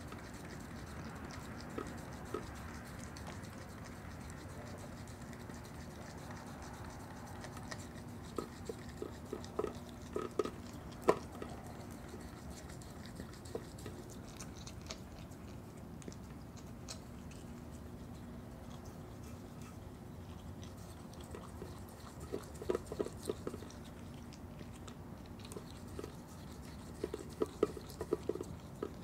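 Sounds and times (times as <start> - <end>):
animal chewing crunchy food: 0.0 - 29.0
faint steady hum: 0.0 - 29.0.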